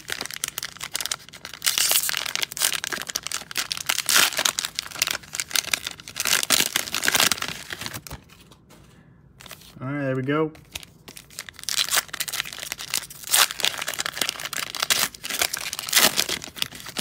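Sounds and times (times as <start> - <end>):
plastic wrapper crinkling and tearing: 0.0 - 8.4, 10.6 - 17.0.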